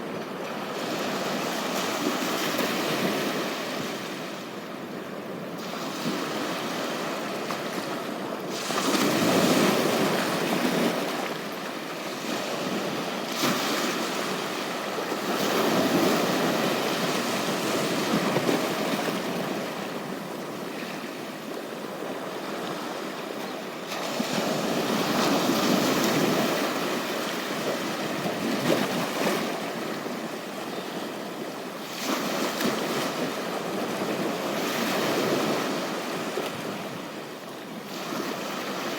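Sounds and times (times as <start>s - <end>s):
sea waves breaking on beach: 5.4s - 38.9s.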